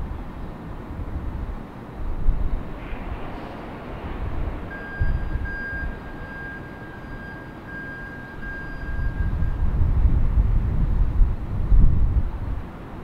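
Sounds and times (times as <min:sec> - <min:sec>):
jet engines rumbling: 0:00.0 - 0:13.0
thin steady whine: 0:00.0 - 0:13.0.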